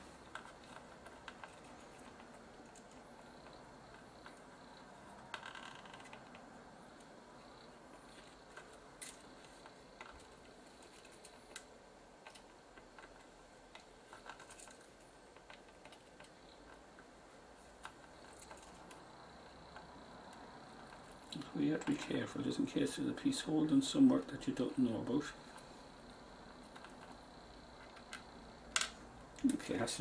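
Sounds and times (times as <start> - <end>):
quiet steady hiss: 0.0 - 30.0.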